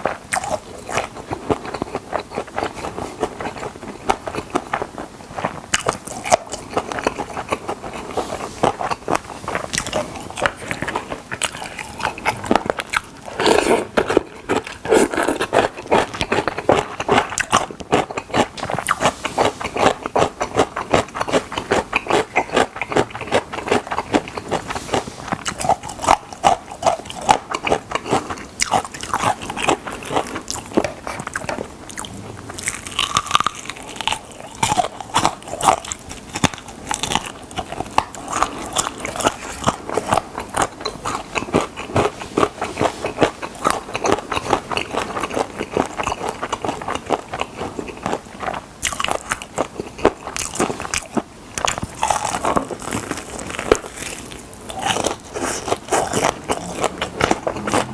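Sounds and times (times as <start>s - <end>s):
biting and chewing: 0.0s - 57.9s.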